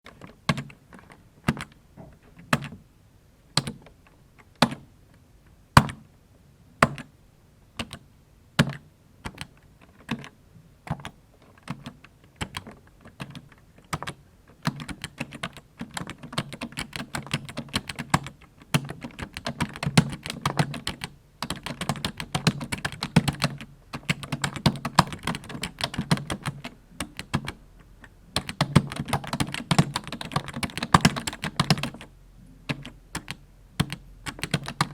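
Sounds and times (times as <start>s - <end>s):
computer keyboard typing: 0.1s - 1.8s, 2.4s - 2.8s, 3.6s - 4.9s, 6.8s - 7.1s, 7.8s - 8.0s, 8.6s - 34.9s.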